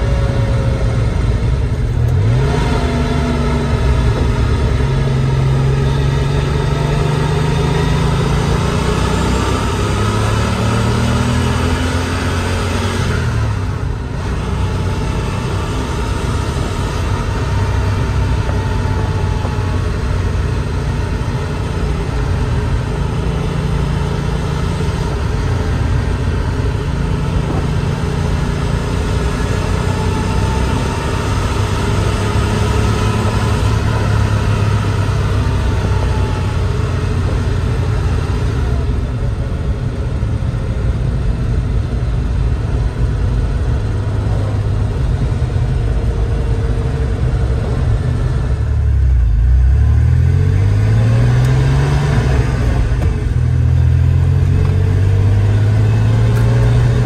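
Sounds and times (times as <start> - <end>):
car engine running from cabin: 0.0 - 57.0
tyre and road noise: 0.0 - 57.0.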